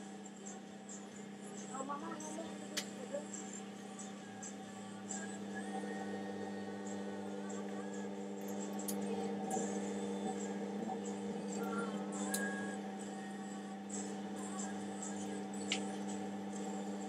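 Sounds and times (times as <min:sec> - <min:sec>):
pottery wheel motor humming: 0:00.0 - 0:17.0.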